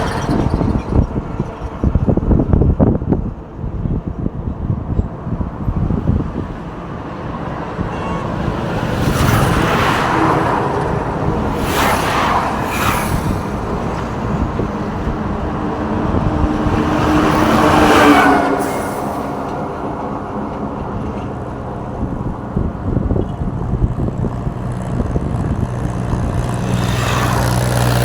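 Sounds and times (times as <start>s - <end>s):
heavy vehicle engine: 0.0s - 28.0s
vehicles passing: 0.0s - 28.0s
wind buffeting microphone: 0.0s - 28.0s.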